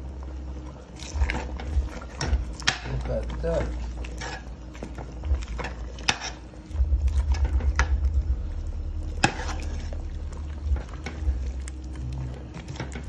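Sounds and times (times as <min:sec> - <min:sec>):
low fluttering rumble: 0:00.0 - 0:13.0
spoon stirring stew: 0:00.6 - 0:08.0, 0:08.6 - 0:13.0.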